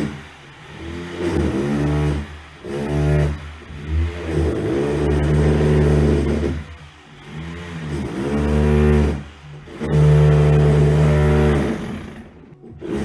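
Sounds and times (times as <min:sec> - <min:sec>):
electric drill motor spinning: 0:00.0 - 0:13.0.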